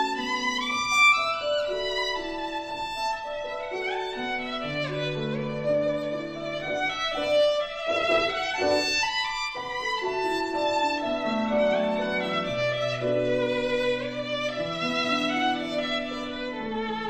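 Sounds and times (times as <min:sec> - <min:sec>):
violin melody with accompaniment: 0:00.0 - 0:17.0.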